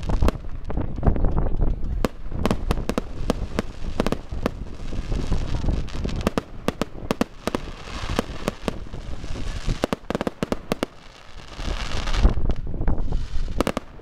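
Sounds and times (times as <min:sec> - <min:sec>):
fireworks bangs and crackle: 0:00.0 - 0:14.0.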